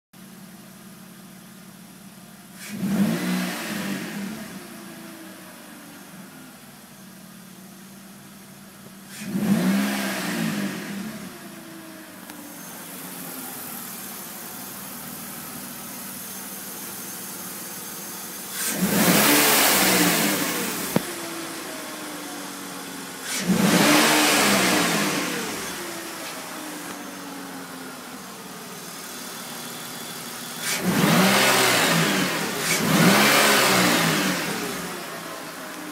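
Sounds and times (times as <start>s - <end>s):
car engine idling and revving: 0.2s - 35.9s.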